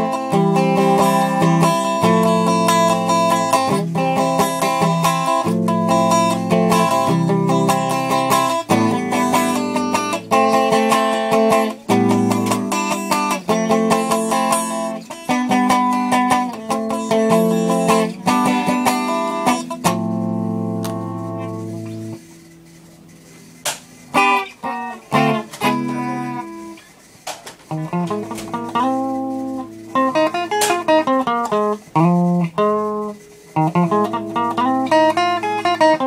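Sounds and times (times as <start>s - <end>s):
electric guitar playing chords: 0.0s - 22.3s, 23.5s - 26.8s, 27.7s - 36.0s.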